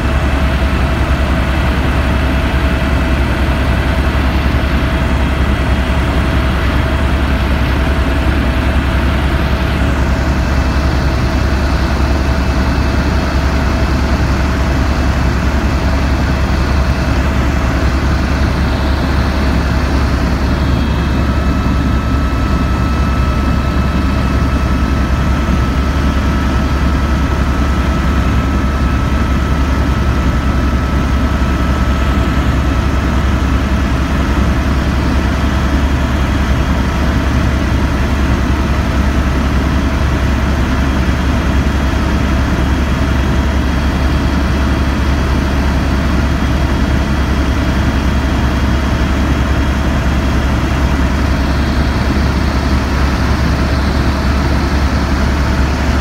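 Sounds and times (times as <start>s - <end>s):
helicopter cabin drone: 0.0s - 56.0s.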